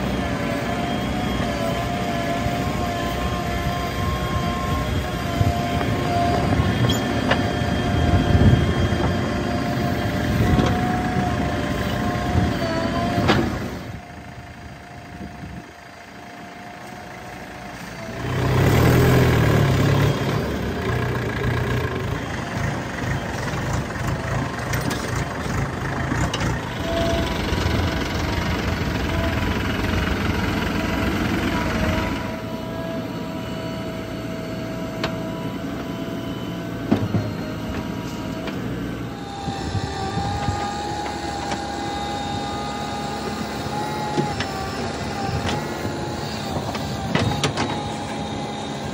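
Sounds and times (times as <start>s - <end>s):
tractor diesel engines running: 0.0s - 48.9s.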